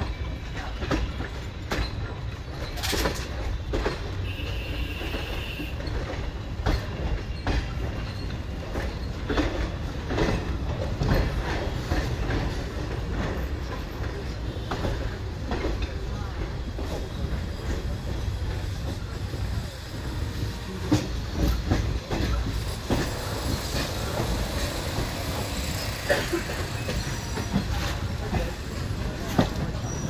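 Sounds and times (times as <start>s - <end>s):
train wheels rumbling on track: 0.0s - 30.0s
wheels clacking over rail joints: 0.0s - 30.0s.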